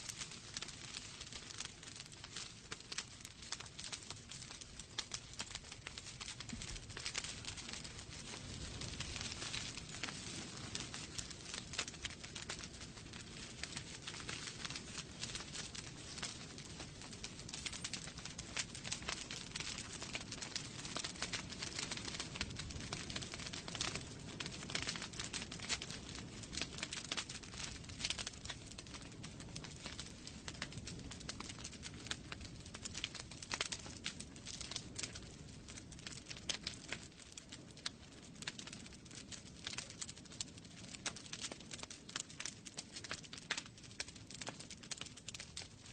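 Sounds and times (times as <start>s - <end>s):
fire low rumble: 0.0s - 45.9s
logs crackling in fireplace: 0.0s - 45.9s.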